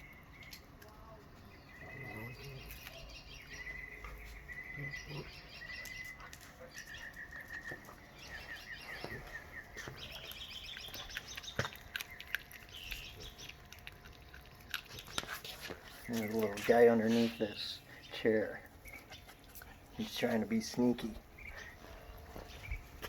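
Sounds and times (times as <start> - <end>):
birds whistling and chirping: 0.0 - 0.7, 1.4 - 13.6, 15.0 - 20.3, 21.2 - 23.0.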